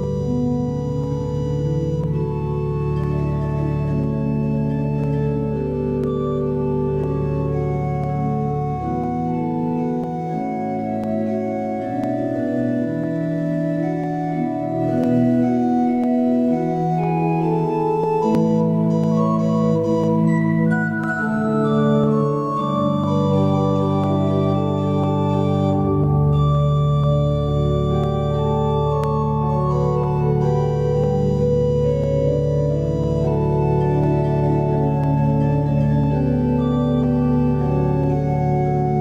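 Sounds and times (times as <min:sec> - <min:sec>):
organ playing slow chords: 0:00.0 - 0:39.0.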